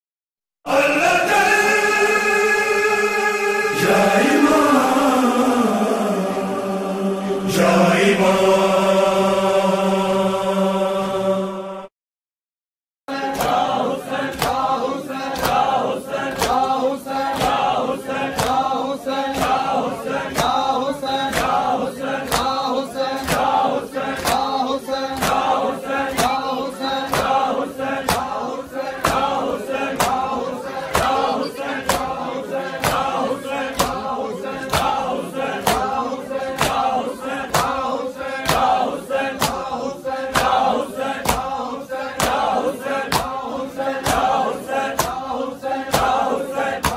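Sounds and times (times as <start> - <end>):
men chanting in chorus: 0.7 - 11.9, 13.1 - 46.9.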